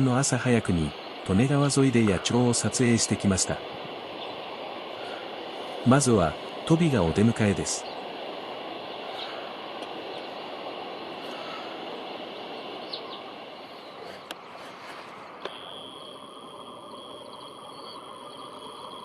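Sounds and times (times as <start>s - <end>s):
faint bird chirps: 0.0s - 5.2s, 7.0s - 19.0s
outdoor background hiss: 0.0s - 19.0s
thin steady high tone: 0.0s - 19.0s.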